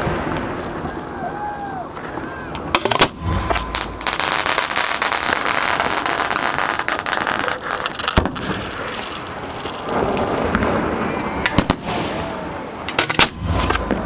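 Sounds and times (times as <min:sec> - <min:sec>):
firework bangs: 0:00.0 - 0:14.0
fireworks crackling: 0:00.0 - 0:14.0.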